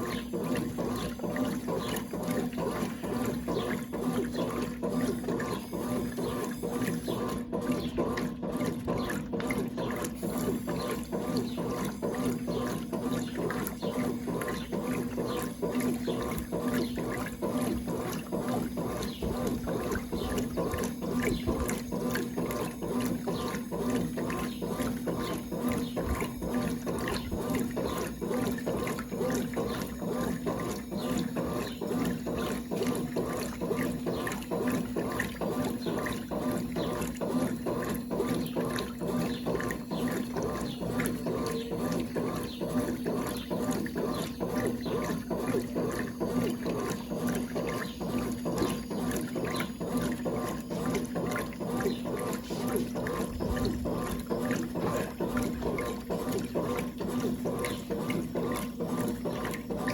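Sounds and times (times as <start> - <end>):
washing machine running: 0.0 - 59.9
water moving in tub: 0.0 - 59.9.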